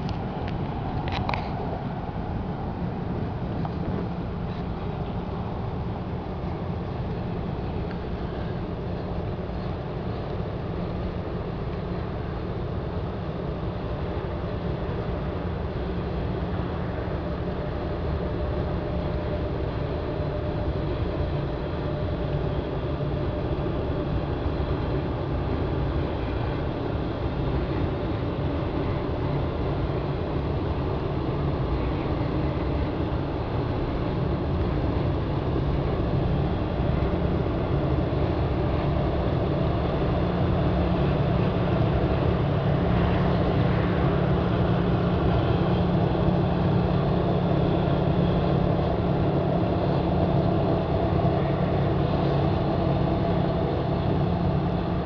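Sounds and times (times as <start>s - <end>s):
tug diesel engine humming: 0.0s - 55.0s.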